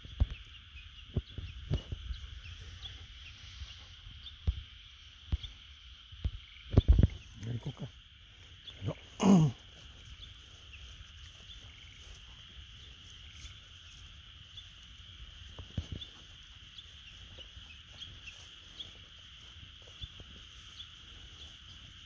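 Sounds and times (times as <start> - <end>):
faint chirps: 0.0 - 22.0
high insect drone: 0.0 - 22.0.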